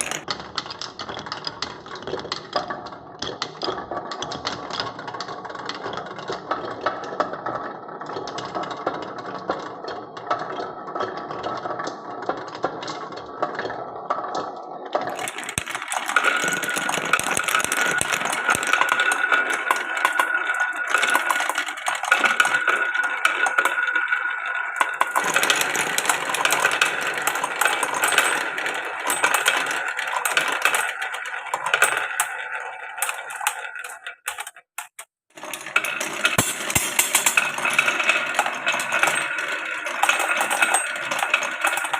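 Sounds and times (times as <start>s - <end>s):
glass marbles rolling and clacking: 0.0s - 6.7s, 14.3s - 41.9s.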